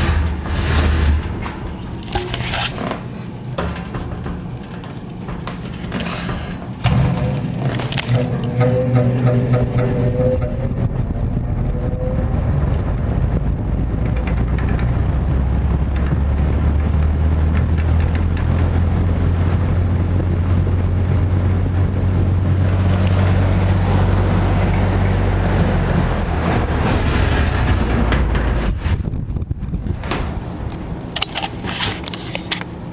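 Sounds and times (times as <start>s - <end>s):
air rushing from fan blades: 0.0s - 32.9s
fan motor hum: 0.0s - 32.9s.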